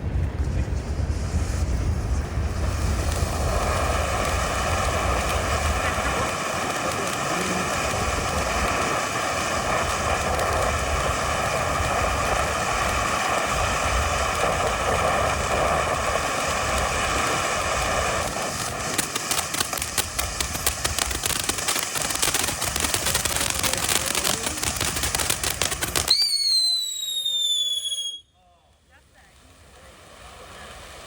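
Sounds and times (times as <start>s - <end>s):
firework fountain hissing: 0.0s - 31.0s.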